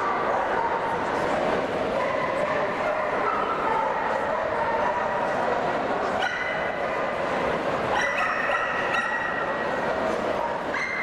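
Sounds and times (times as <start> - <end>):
crowd hubbub in large hall: 0.0 - 11.0.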